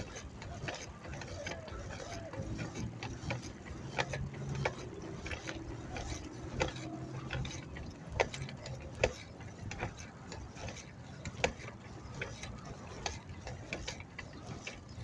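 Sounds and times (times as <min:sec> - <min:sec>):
bicycle drivetrain clicking: 0:00.0 - 0:15.0.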